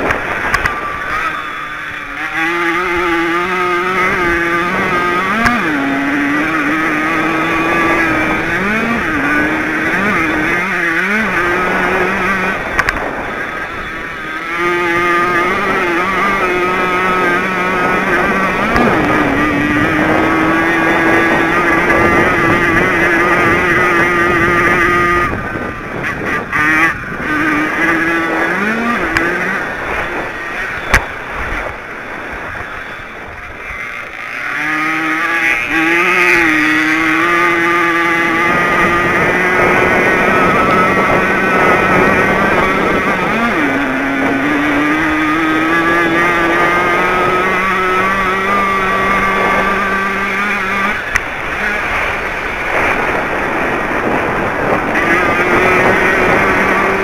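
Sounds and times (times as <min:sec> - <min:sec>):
two-stroke racing engine revving: 0:00.0 - 0:57.0.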